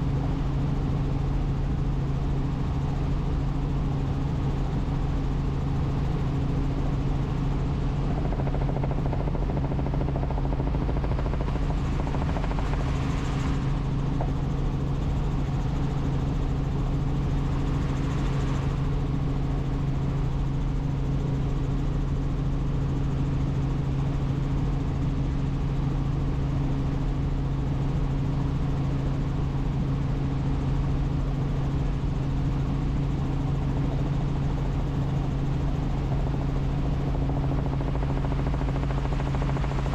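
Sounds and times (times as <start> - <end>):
helicopter rotor hum: 0.0 - 39.9.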